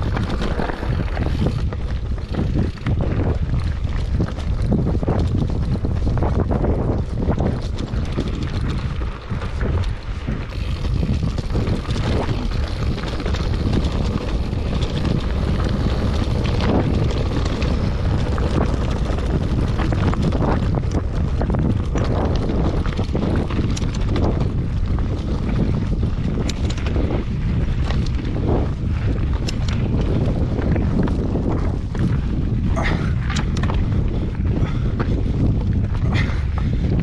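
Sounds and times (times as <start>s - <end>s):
tyres crunching over loose stones: 0.0s - 36.7s
bike rattles and clicks: 0.0s - 37.0s
wind buffeting microphone: 0.0s - 37.0s.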